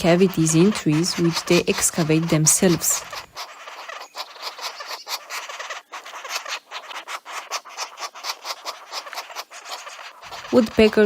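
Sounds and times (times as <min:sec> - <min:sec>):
woodpecker tapping on wood: 0:00.0 - 0:11.0.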